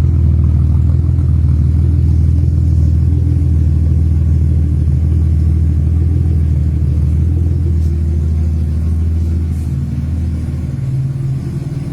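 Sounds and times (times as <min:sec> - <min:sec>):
car exhaust rumbling: 0:00.0 - 0:11.9.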